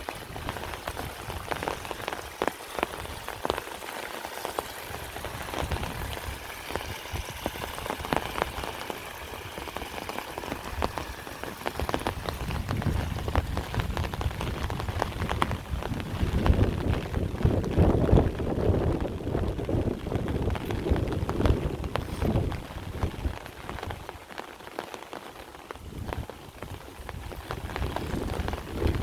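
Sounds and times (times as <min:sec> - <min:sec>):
heavy rain: 0:00.0 - 0:29.0
raindrops tapping: 0:00.0 - 0:29.0.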